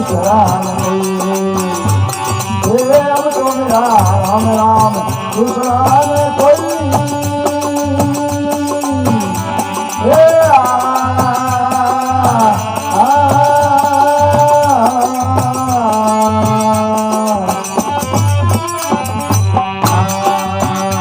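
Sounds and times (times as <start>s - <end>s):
hand cymbals jingling: 0.0s - 21.0s
steady drum beat: 0.0s - 21.0s.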